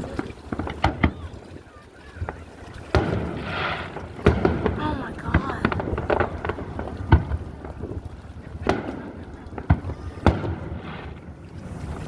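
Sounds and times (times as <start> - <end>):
fireworks booming: 0.0 - 12.0
low rumble of fireworks show: 0.0 - 12.0
wind on microphone: 0.0 - 12.0.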